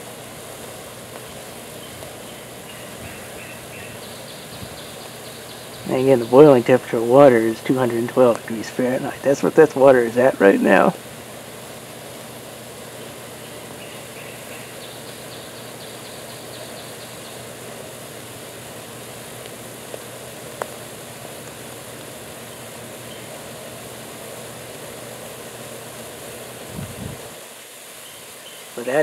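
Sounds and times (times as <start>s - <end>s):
water boiling in a bucket: 0.0s - 29.0s.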